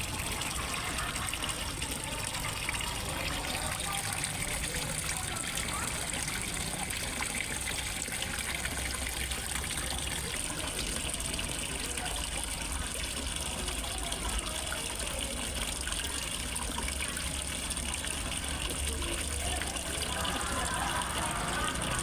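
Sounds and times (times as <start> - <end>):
water splashing into a pond: 0.0 - 22.0.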